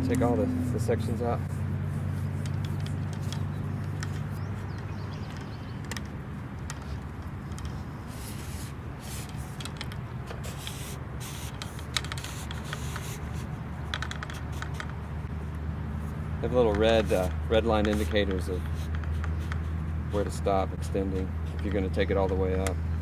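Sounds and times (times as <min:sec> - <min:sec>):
steady low hum: 0:00.0 - 0:23.0
telescoping pole sliding and clicking: 0:01.5 - 0:15.6, 0:16.4 - 0:22.8.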